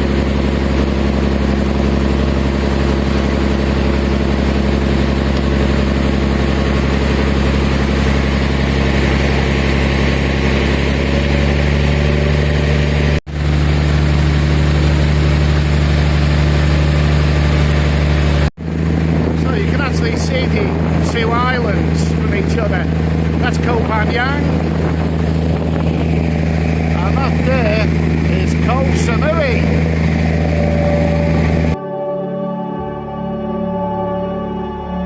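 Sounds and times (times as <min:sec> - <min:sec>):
ferry engine droning: 0:00.0 - 0:35.0.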